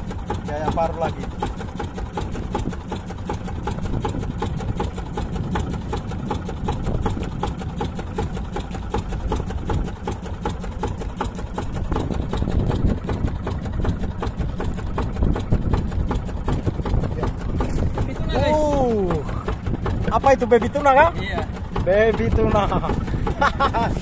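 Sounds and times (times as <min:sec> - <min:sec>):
boat engine clattering: 0:00.0 - 0:24.0.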